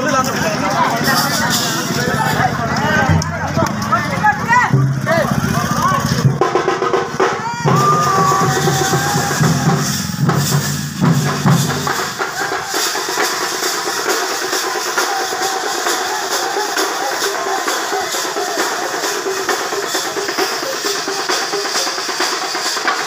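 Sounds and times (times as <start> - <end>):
fast festival drumming: 0.0 - 23.0.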